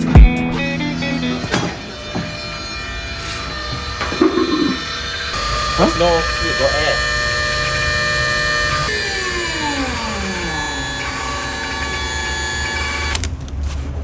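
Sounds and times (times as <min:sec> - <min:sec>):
mechanical whine: 0:00.0 - 0:13.2
motor winding down: 0:00.6 - 0:13.2.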